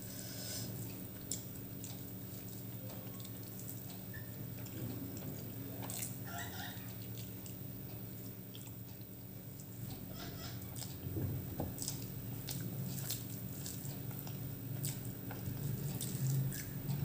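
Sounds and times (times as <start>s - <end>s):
steady low hum: 0.0s - 17.0s
wet eating by hand: 0.7s - 17.0s.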